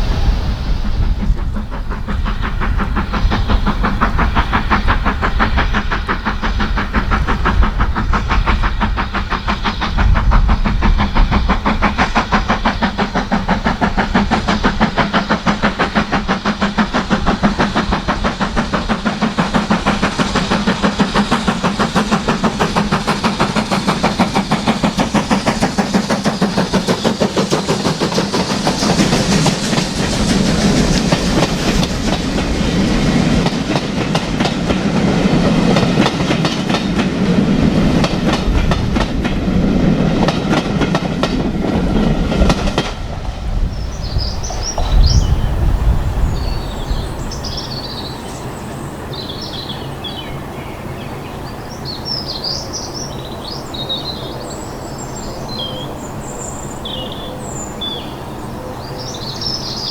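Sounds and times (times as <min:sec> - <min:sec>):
steam train running past: 0:00.0 - 0:59.9.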